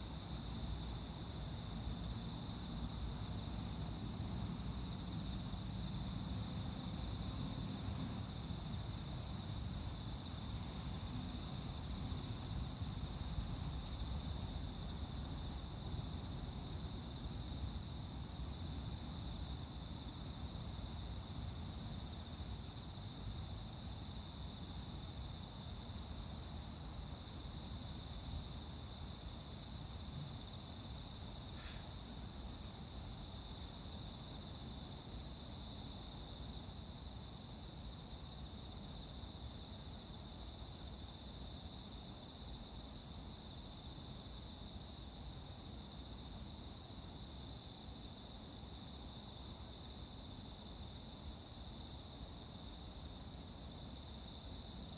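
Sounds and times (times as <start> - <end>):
crickets and night insects trilling: 0.0 - 54.9.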